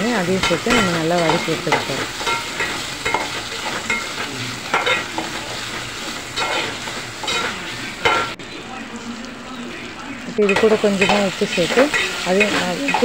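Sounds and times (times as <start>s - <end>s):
onions and tomatoes sizzling in pan: 0.0s - 13.0s
metal spatula scraping pan: 0.2s - 8.4s, 10.4s - 13.0s.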